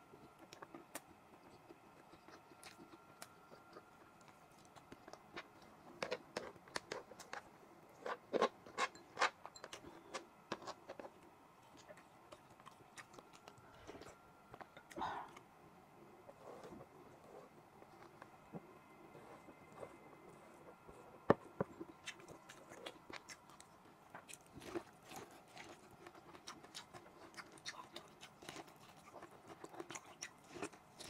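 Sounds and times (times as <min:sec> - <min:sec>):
chewing and smacking: 0:00.1 - 0:15.4, 0:16.3 - 0:31.0.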